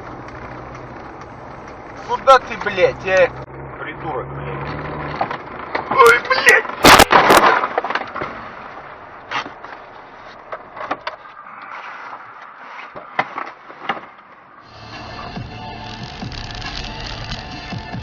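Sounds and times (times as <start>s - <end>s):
car cabin and road noise: 0.0s - 18.0s.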